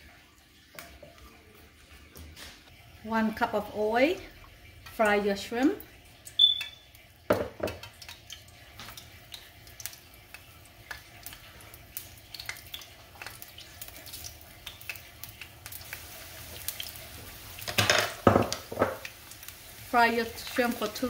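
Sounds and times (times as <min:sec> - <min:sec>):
shrimp sizzling in hot oil: 0:03.1 - 0:21.0.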